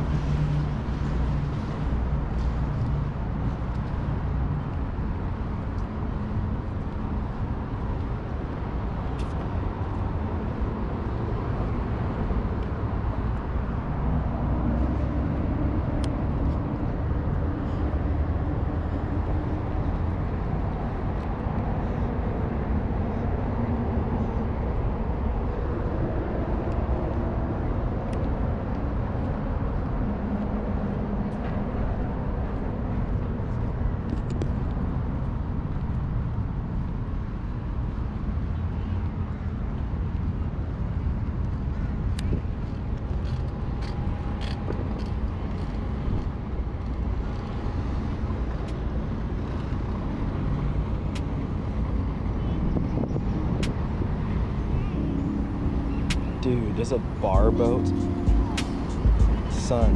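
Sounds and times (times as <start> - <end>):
faint engine hum: 0.0 - 59.9
low rumble of traffic: 0.0 - 59.9.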